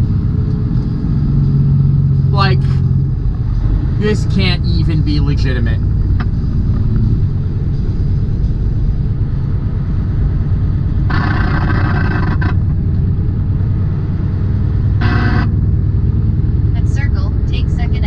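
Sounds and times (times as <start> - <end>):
road noise inside cab: 0.0 - 18.0
truck engine rumble: 0.0 - 18.0.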